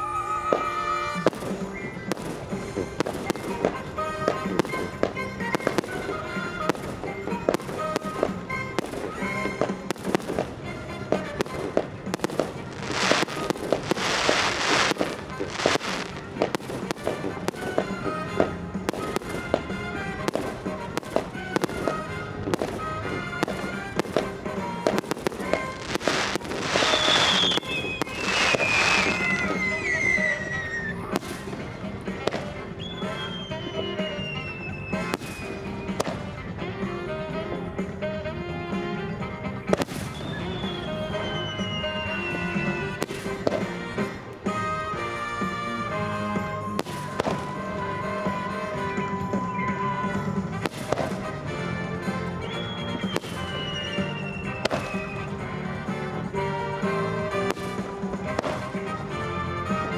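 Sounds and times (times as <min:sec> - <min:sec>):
crackling hiss of fireworks: 0:00.0 - 0:59.9
falling whistle: 0:00.0 - 0:59.9
firework shells bursting: 0:00.0 - 0:59.9
music: 0:00.0 - 0:59.9.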